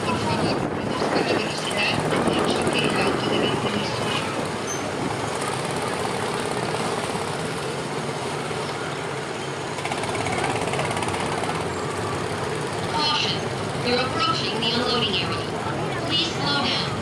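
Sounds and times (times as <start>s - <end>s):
small gasoline engines idling: 0.0s - 17.0s.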